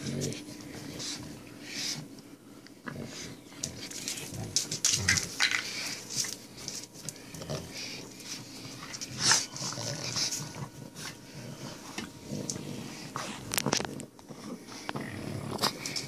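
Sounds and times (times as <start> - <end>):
dogs play-fighting: 0.0 - 16.0.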